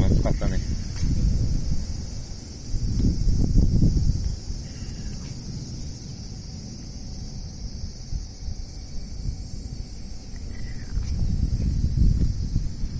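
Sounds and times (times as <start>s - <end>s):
insects chorus: 0.0s - 12.9s
wind buffeting microphone: 0.0s - 12.9s.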